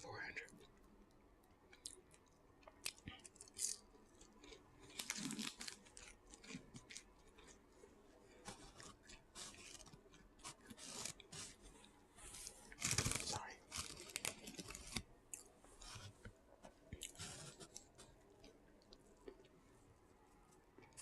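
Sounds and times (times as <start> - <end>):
person chewing and crunching food: 1.5 - 16.2, 16.8 - 19.6.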